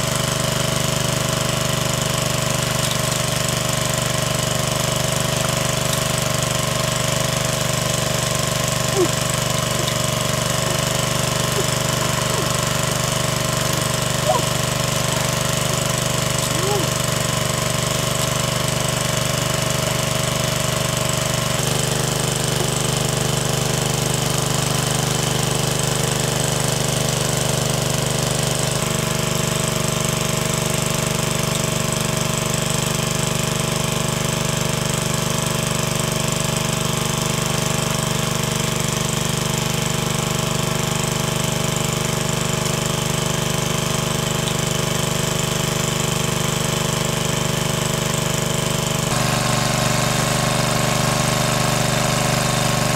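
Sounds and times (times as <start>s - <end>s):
engine-driven water pump running: 0.0s - 52.9s.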